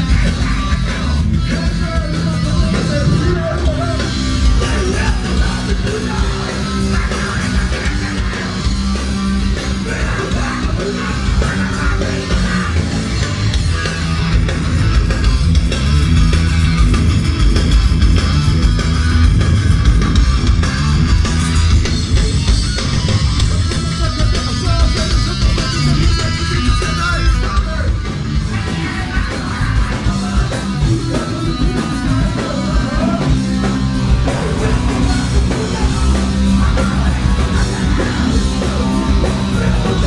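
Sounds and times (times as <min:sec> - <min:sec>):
loud rock music with guitar: 0:00.0 - 0:40.0.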